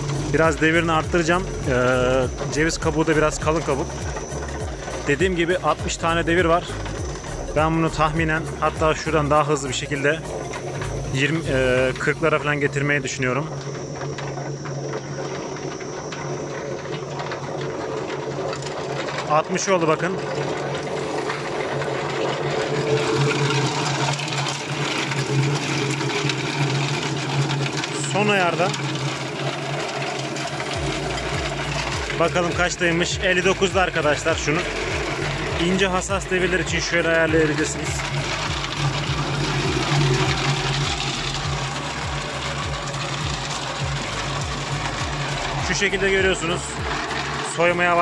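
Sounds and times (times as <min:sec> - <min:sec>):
machine motor humming: 0:00.0 - 0:48.0
walnuts churning in drum: 0:00.0 - 0:48.0.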